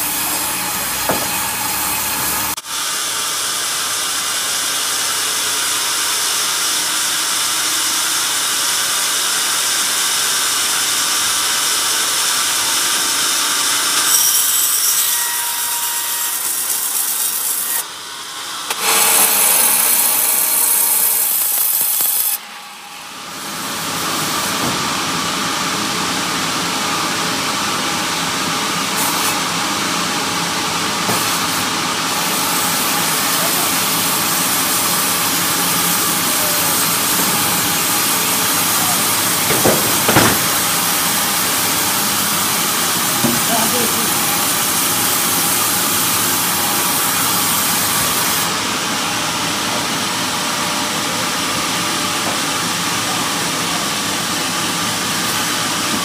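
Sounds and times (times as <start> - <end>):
band saw cutting logs: 0.0 - 56.0.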